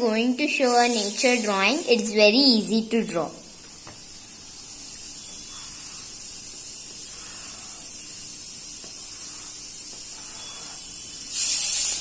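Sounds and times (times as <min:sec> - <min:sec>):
high-pitched hiss: 0:00.4 - 0:12.0.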